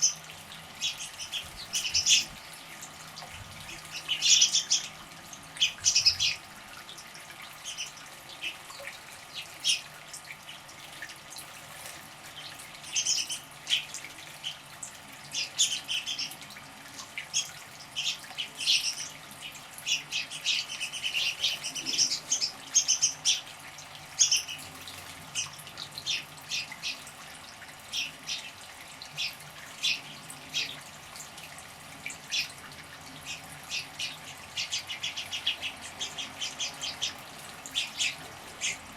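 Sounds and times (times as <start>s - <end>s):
small birds chirping: 0.0s - 10.7s, 12.2s - 27.1s, 27.8s - 30.9s, 32.1s - 38.9s
water splashing in bird bath: 0.0s - 38.9s.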